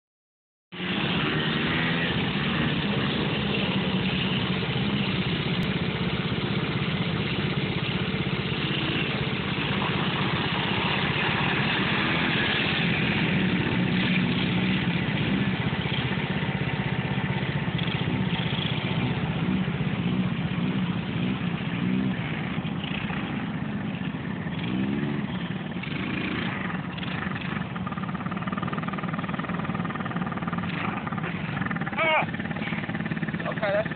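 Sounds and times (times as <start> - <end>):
atv engine revving: 0.7 - 33.9.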